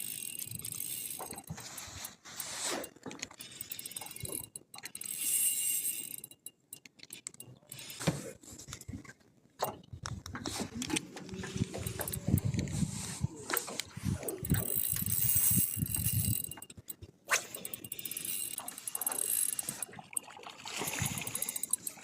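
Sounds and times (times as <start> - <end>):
fishing reel gears clicking: 0.0 - 8.1, 11.4 - 12.8, 13.5 - 22.0.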